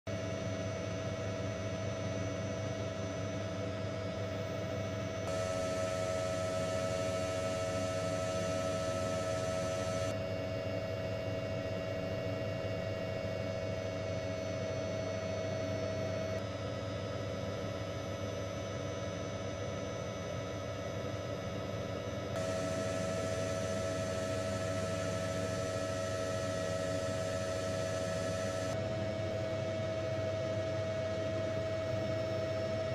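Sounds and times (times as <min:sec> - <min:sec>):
helicopter drone with high whine: 0:00.1 - 0:32.9.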